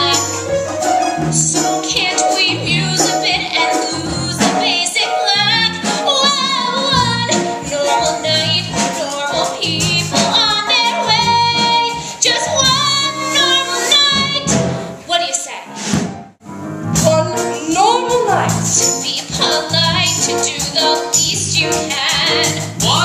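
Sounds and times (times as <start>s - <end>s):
instrumental accompaniment: 0.0s - 23.0s
woman singing with vibrato: 1.3s - 14.5s, 17.0s - 23.0s.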